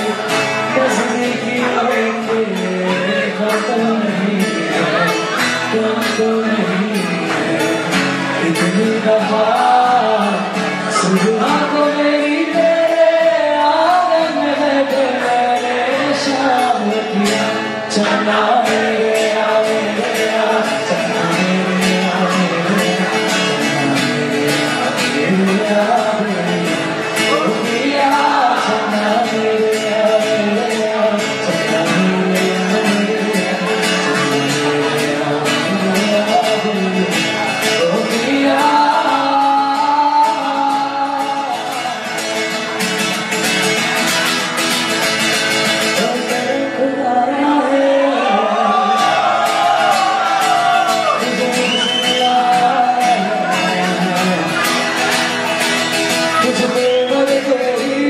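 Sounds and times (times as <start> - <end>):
man singing: 0.0 - 44.2, 44.9 - 58.0
acoustic guitar strummed: 0.0 - 58.0.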